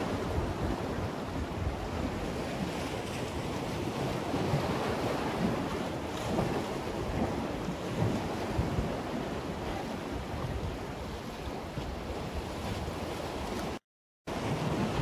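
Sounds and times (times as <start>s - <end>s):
waves splashing against concrete: 0.0s - 15.0s
wind buffeting microphone: 0.0s - 15.0s.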